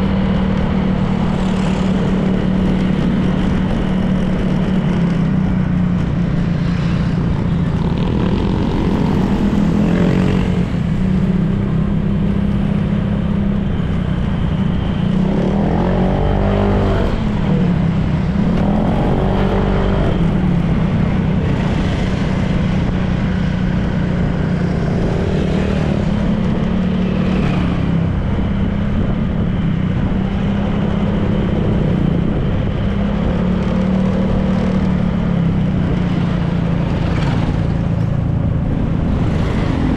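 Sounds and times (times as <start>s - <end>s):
vehicles passing: 0.0s - 39.9s
wind and road noise: 0.0s - 39.9s.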